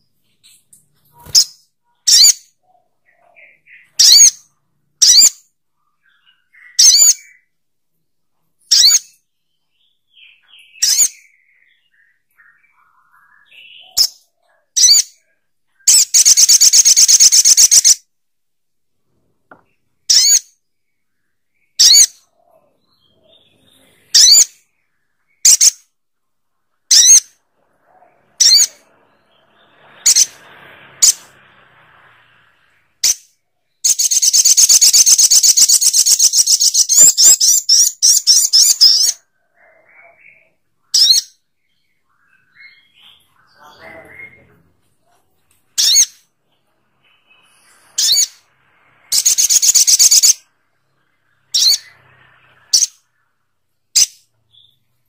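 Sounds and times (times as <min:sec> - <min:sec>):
bird sharp high calls: 0:00.0 - 0:07.6, 0:08.7 - 0:18.0, 0:21.5 - 0:25.9, 0:26.9 - 0:44.6, 0:45.7 - 0:46.4, 0:47.0 - 0:54.9.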